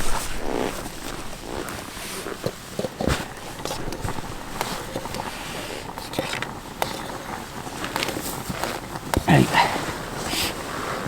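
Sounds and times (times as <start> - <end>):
handling rustling: 0.0 - 10.0.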